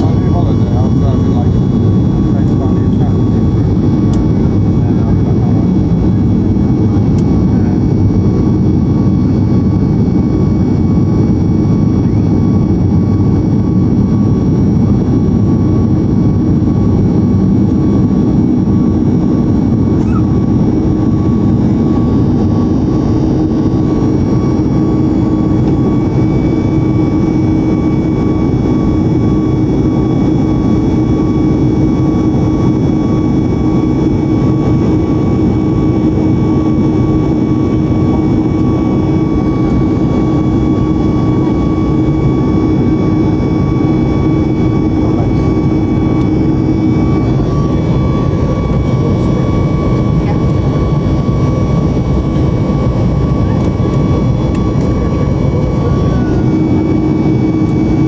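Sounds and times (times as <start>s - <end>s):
jet cabin drone: 0.0s - 58.0s
steady whining tones: 0.0s - 58.0s.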